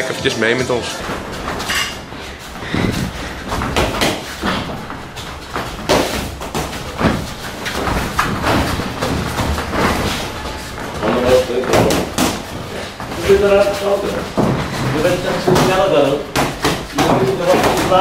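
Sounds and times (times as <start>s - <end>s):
boxing gloves thudding: 1.0s - 18.0s.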